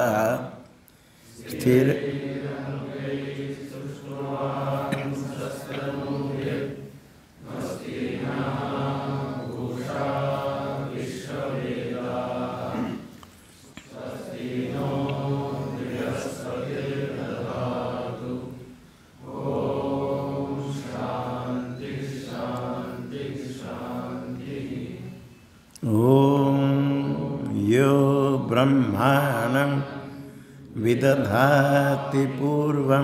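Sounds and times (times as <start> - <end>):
man chanting mantras: 0.0 - 13.1, 13.9 - 33.0.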